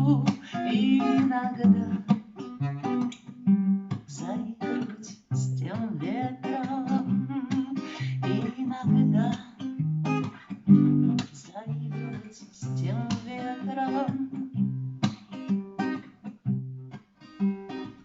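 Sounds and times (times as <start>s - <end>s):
acoustic guitar chords: 0.0s - 18.0s.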